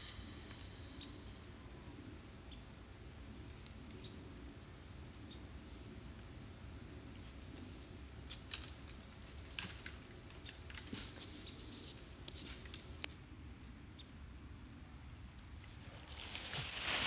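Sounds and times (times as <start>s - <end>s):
faint ticks and rustles: 0.0s - 13.8s.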